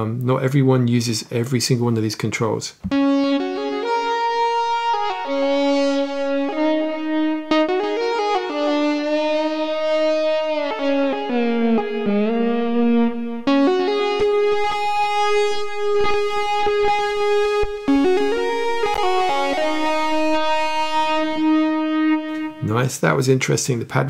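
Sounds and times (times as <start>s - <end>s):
synthesizer held notes: 2.9s - 22.8s.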